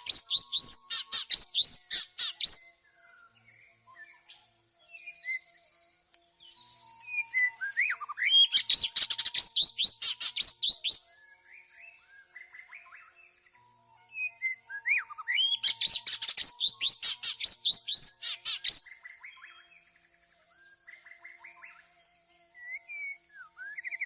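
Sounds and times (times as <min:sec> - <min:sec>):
bird singing whistled trills: 0:00.0 - 0:24.0.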